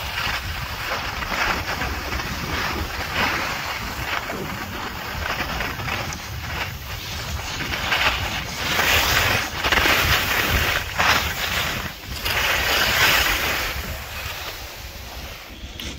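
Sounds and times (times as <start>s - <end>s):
skis scraping over snow: 0.0s - 15.9s
wind rumble on microphone: 0.0s - 15.9s.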